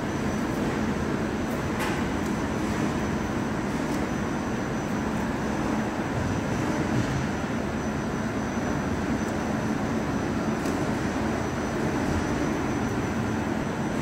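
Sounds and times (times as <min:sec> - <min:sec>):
electric cooling fans: 0:00.0 - 0:14.0
machine drone of conveyor: 0:00.0 - 0:14.0
thin high whine: 0:02.5 - 0:14.0.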